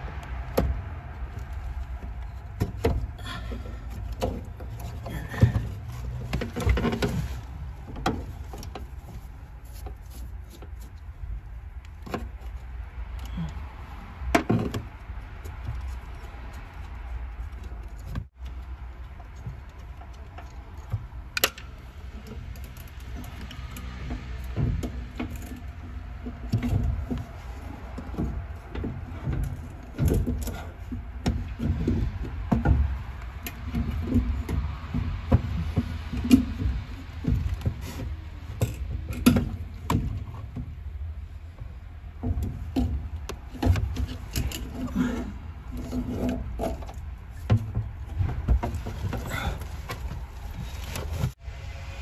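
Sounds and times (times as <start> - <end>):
fuel pump knocking and rattling: 0.4 - 11.0, 17.5 - 51.4.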